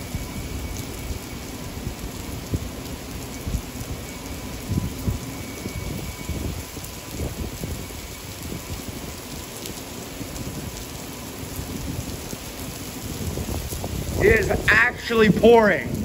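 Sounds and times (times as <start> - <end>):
heavy rain splashing into water: 0.0 - 16.0.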